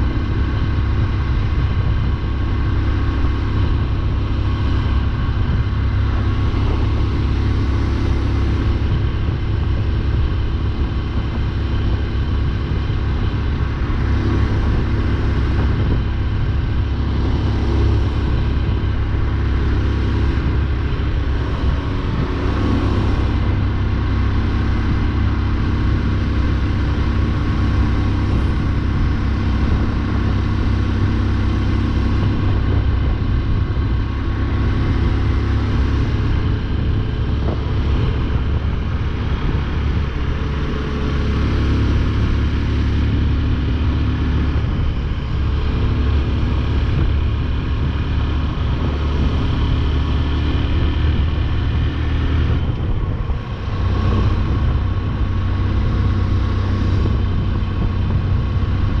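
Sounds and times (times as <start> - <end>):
motorcycle cruising: 0.0 - 59.0.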